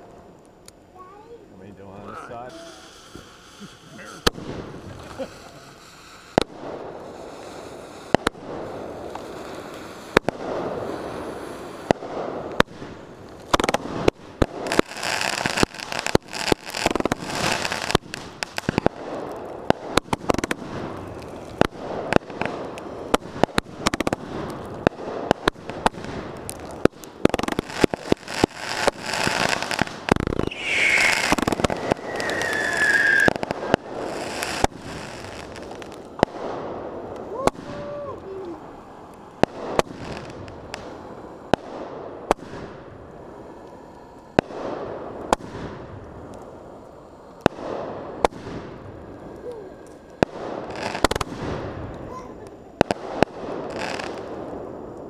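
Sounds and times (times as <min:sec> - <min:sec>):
fireworks crackling: 0:00.0 - 0:55.0
fireworks bangs: 0:01.8 - 0:54.8.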